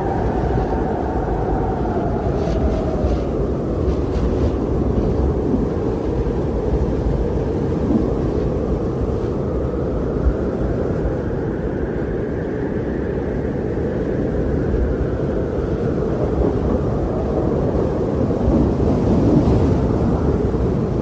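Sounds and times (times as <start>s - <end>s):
wind blowing: 0.0s - 21.0s.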